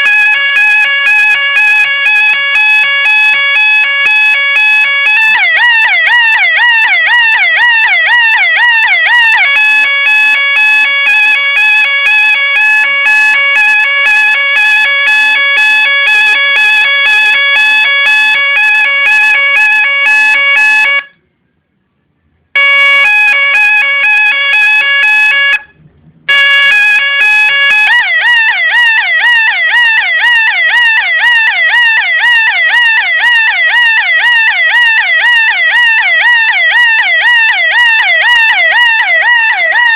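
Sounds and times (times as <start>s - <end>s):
electronic police siren: 0.0s - 21.2s, 22.6s - 39.9s.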